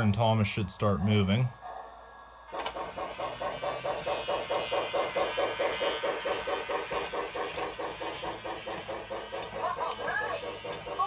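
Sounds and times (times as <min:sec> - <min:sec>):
toy train steam chuffing: 0:00.0 - 0:11.0.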